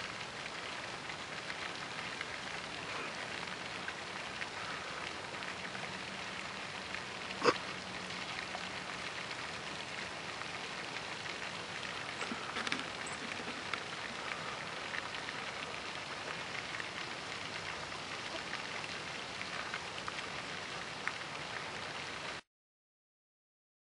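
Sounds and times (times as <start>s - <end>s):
fountain splashing onto water: 0.0s - 22.4s.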